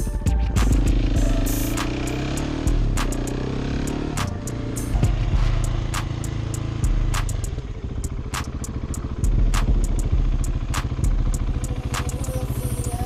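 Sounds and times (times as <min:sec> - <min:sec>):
motorcycle engine running: 0:00.0 - 0:13.0
music beat: 0:00.0 - 0:13.0.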